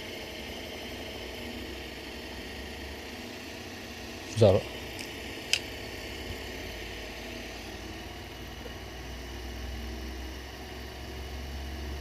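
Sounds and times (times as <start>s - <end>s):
printer fans and motors whirring: 0.0s - 12.0s.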